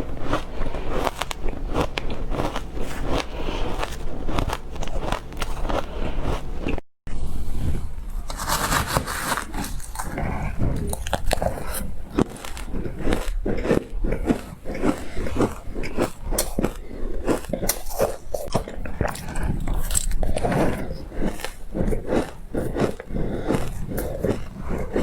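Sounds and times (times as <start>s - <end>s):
crunching frozen ice: 0.0s - 6.8s, 8.2s - 25.0s.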